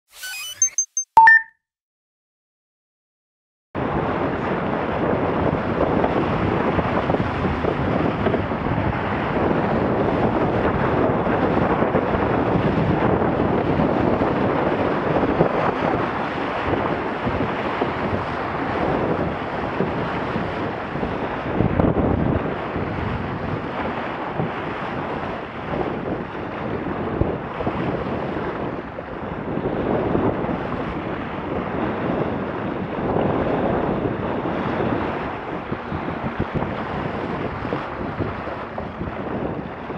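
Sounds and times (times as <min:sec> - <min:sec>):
water rushing along boat hull: 0:03.8 - 0:39.9
wind buffeting microphone: 0:03.8 - 0:39.9.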